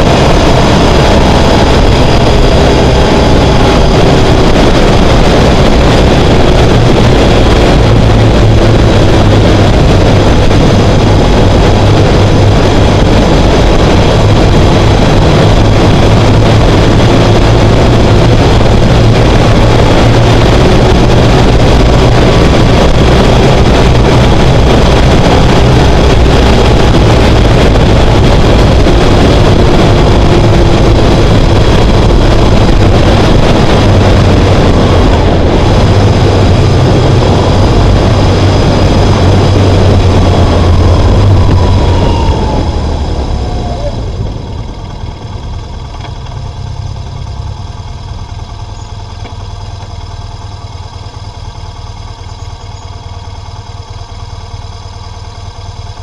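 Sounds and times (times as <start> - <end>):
motorcycle engine drone: 0.0 - 56.0
rushing wind noise: 0.0 - 56.0.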